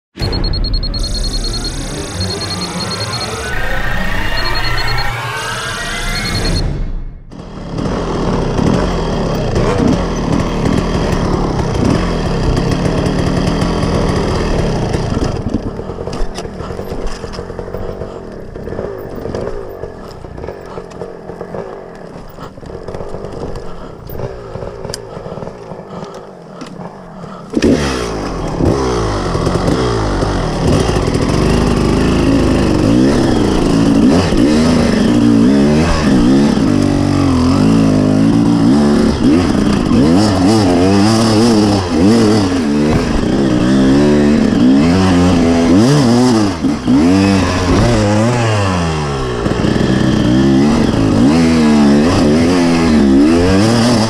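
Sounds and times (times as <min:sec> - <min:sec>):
two-stroke motorcycle engine revving: 0:00.2 - 0:05.3, 0:07.3 - 0:54.0.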